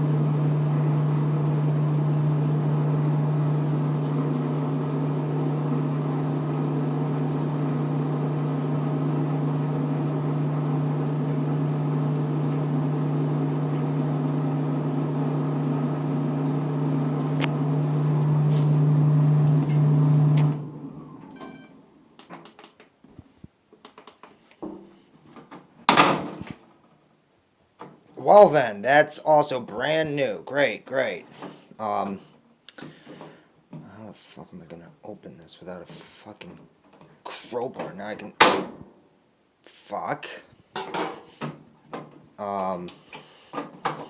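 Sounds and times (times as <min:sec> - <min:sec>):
clothes dryer humming and rumbling: 0:00.0 - 0:23.3, 0:27.8 - 0:39.0, 0:39.9 - 0:44.0.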